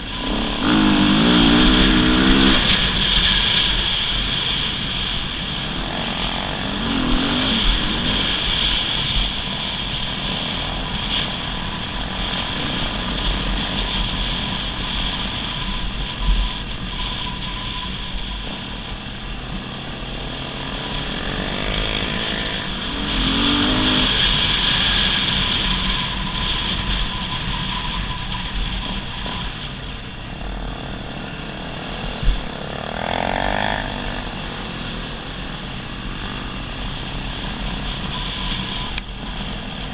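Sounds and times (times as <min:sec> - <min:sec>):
dirt bike engine running: 0:00.0 - 0:39.9
rushing noise: 0:00.0 - 0:39.9.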